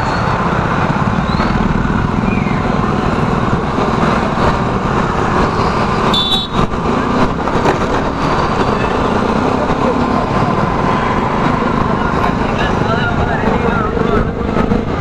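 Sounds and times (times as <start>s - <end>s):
town traffic: 0.0s - 15.0s
wind: 0.0s - 15.0s.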